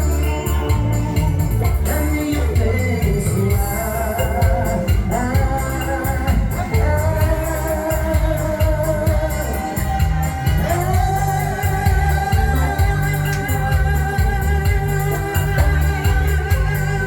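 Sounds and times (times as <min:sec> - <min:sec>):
band playing: 0:00.0 - 0:17.0
person singing: 0:00.0 - 0:17.0
steady bass beat: 0:00.0 - 0:17.0.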